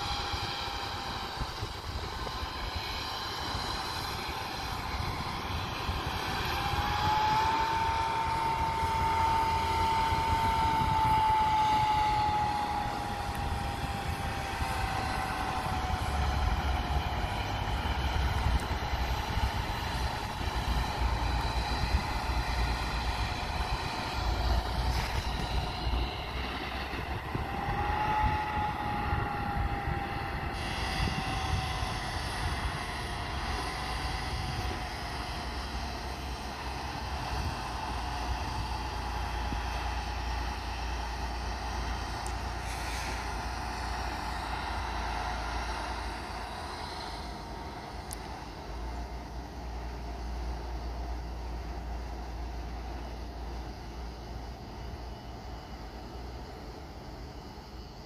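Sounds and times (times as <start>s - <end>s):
train rumbling past: 0.0s - 58.0s
train whine: 0.0s - 58.0s.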